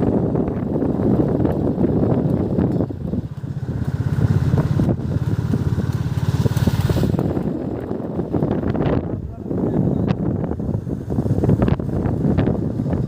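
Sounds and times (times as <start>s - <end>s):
motorcycle engine running: 0.0s - 13.0s
wind rumbling on microphone: 0.0s - 13.0s.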